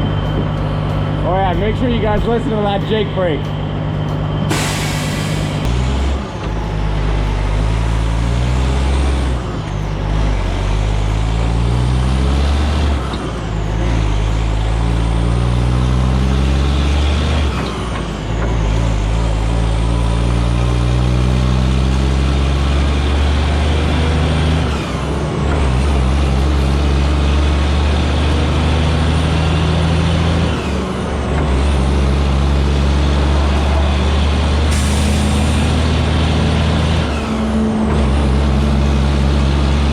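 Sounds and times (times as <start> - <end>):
diesel truck engine shifting gears: 0.0 - 39.9.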